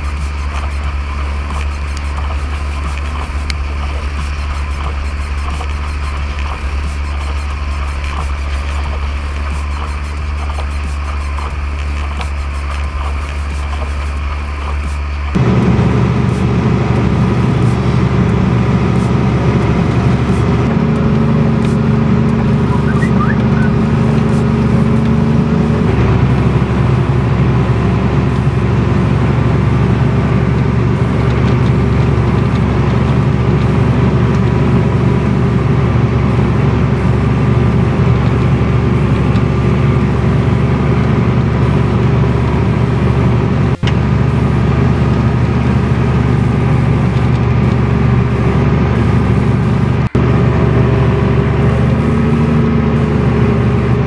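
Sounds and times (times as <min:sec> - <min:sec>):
snowplow pushing through snow: 0:00.0 - 0:54.0
tractor diesel engine running: 0:00.0 - 0:54.0.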